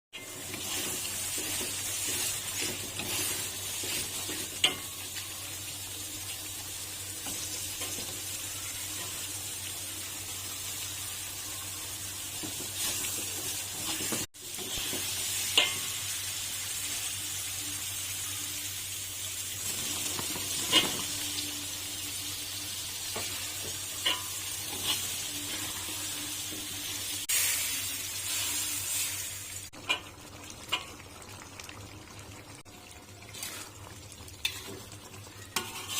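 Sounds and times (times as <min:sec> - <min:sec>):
meat sizzling in a pan: 0:00.2 - 0:35.9.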